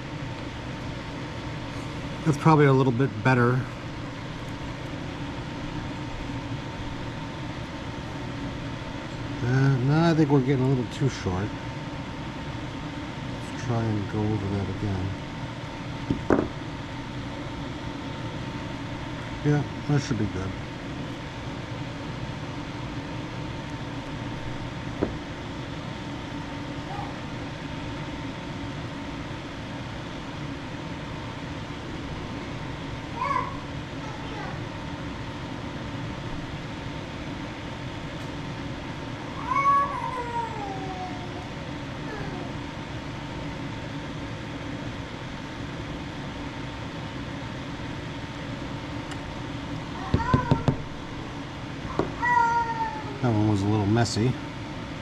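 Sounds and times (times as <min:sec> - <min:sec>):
faint steady whine: 0:00.0 - 0:55.0
mechanical hum: 0:00.0 - 0:55.0.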